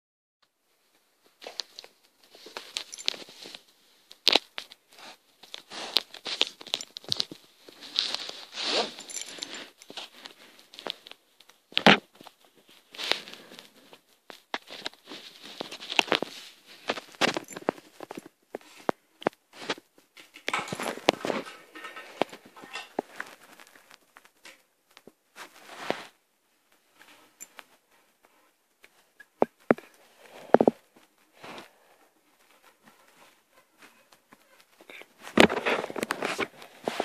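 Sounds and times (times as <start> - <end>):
crackling and rustling: 0.4 - 37.0.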